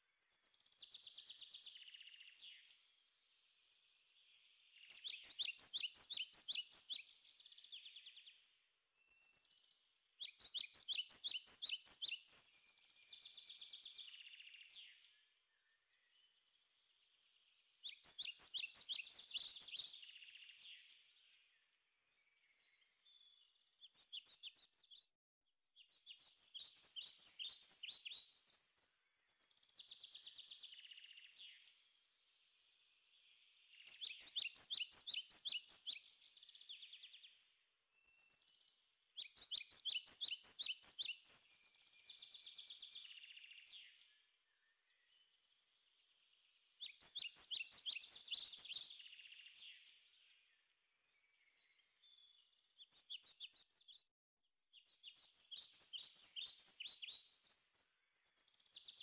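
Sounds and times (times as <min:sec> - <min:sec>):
songbird chirping trills: 0:00.0 - 0:25.1, 0:25.8 - 0:54.1, 0:54.7 - 0:59.0.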